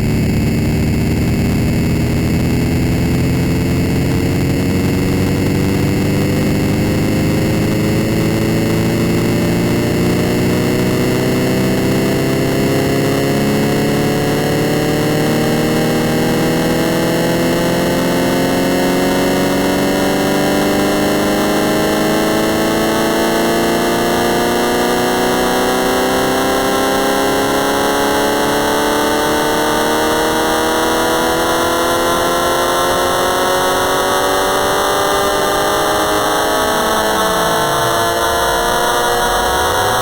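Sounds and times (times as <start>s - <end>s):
distorted rising electronic tones: 0.0s - 40.0s
low drone: 0.0s - 40.0s.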